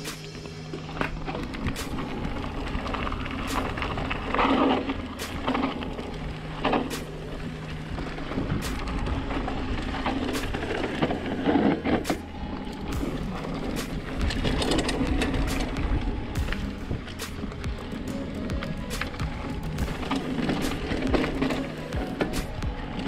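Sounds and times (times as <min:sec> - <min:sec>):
bike rattling over bumps: 0:00.0 - 0:23.0
bike tyres crunching over dirt: 0:00.0 - 0:23.0
wind rumbling on microphone: 0:00.0 - 0:23.0.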